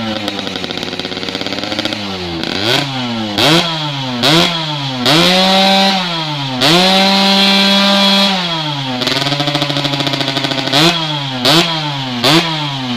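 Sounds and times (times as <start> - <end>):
two-stroke engine revving: 0.0 - 12.9.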